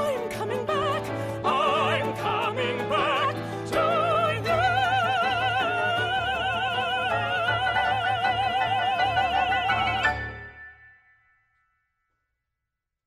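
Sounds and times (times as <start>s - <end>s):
orchestra playing: 0.0s - 10.6s.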